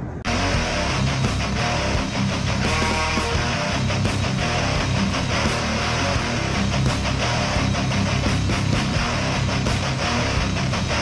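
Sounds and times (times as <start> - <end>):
intro music with strummed guitar: 0.2 - 11.0.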